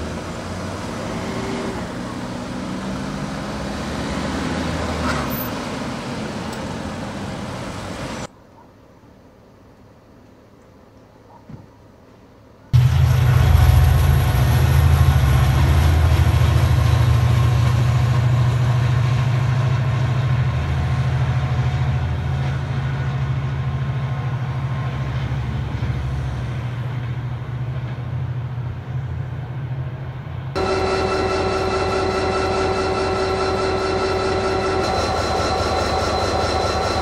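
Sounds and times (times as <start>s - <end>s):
diesel train engine rumble: 0.0s - 8.3s, 12.8s - 37.0s
train passing with steady whine: 0.0s - 37.0s.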